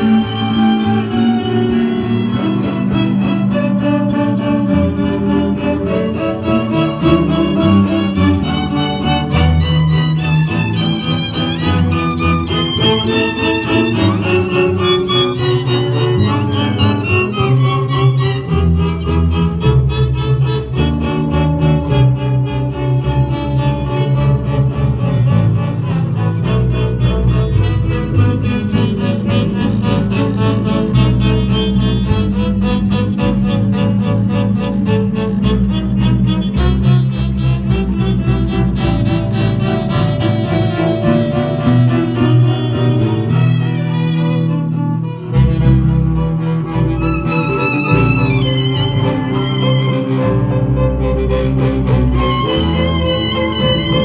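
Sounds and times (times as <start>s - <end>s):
double bass line: 0.0s - 54.0s
electric cellos bowing held notes: 0.0s - 54.0s
violin: 0.0s - 54.0s.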